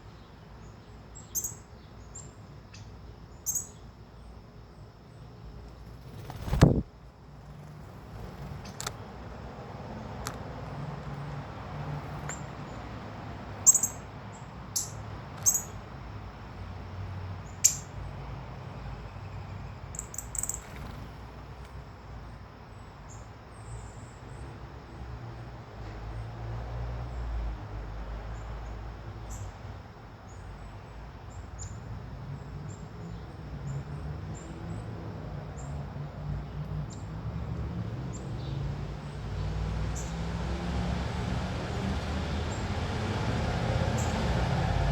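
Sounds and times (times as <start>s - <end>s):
songbirds chirping: 0.0s - 6.6s, 7.2s - 44.9s.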